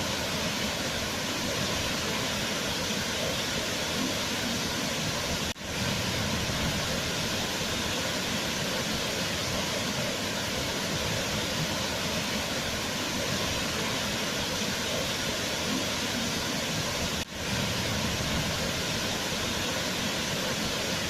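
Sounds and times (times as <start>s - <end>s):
waterfall rushing and splashing: 0.0s - 21.0s.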